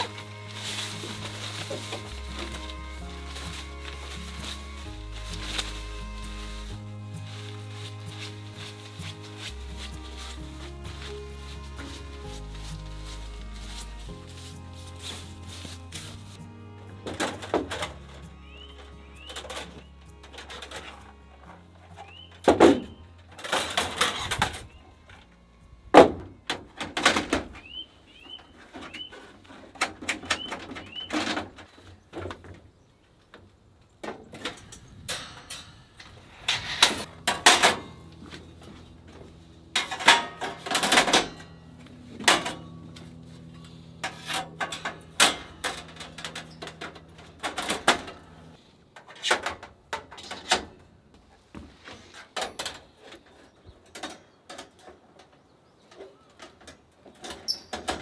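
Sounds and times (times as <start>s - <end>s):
camping gear clacking and rustling: 0.0s - 58.0s.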